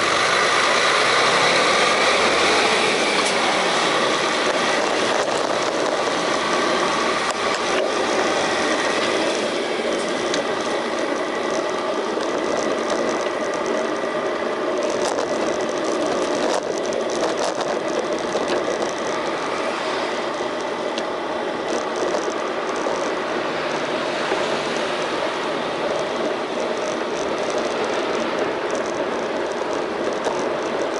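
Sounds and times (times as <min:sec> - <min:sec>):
bicycle drivetrain rattle and ticking: 0:00.0 - 0:30.9
sharp bicycle clicks: 0:00.0 - 0:30.9.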